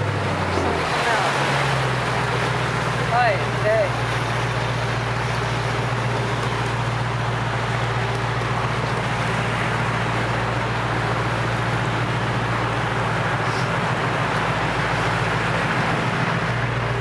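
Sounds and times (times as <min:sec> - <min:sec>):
motor boat engine droning: 0:00.0 - 0:17.0
wind and water hiss: 0:00.0 - 0:17.0.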